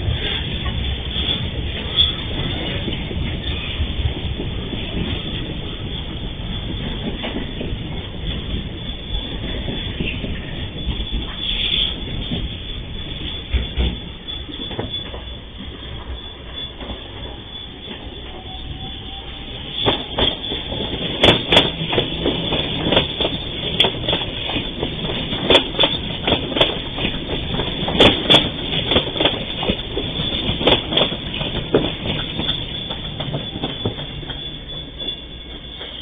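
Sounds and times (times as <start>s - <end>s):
train wheels clattering over rail joints: 0.0s - 36.0s.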